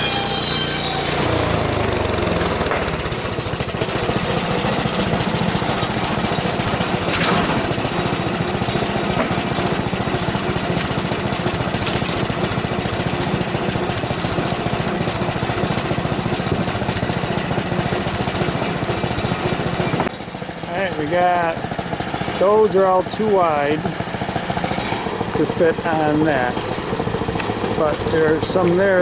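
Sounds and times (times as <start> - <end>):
small gasoline engine running: 0.0 - 29.0.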